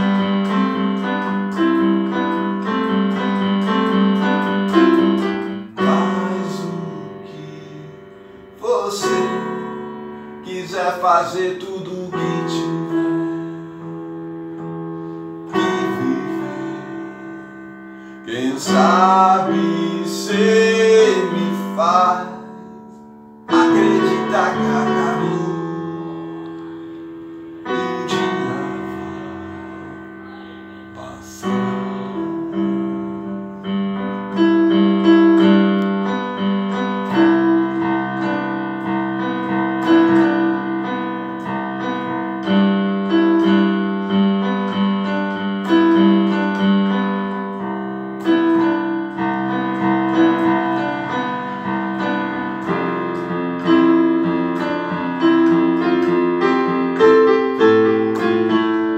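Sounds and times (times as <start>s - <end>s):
piano chords and melody: 0.0s - 58.9s.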